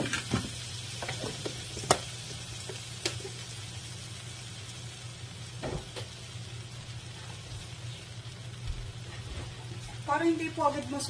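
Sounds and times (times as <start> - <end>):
butter sizzling in a wok: 0.0 - 11.0.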